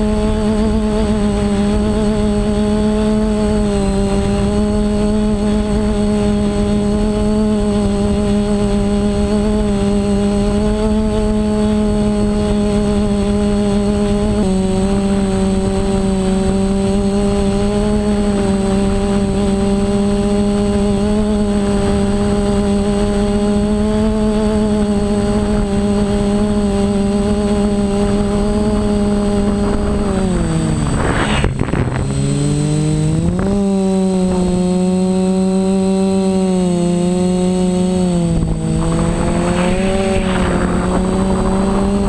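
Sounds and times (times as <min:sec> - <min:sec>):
drone motors and propellers humming: 0:00.0 - 0:42.0.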